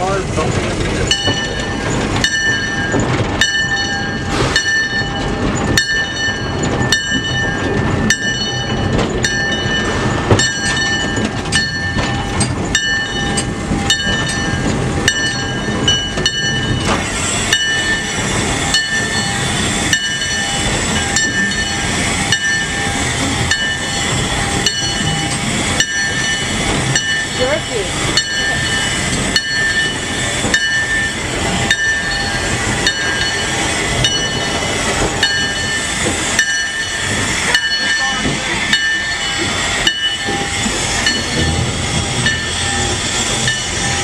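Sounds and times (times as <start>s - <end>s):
steam locomotive moving slowly: 0.0s - 44.0s.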